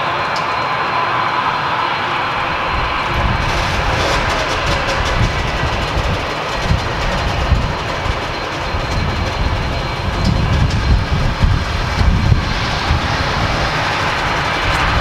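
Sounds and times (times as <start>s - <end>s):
high engine whine: 0.0s - 15.0s
jet engines rumbling: 0.0s - 15.0s.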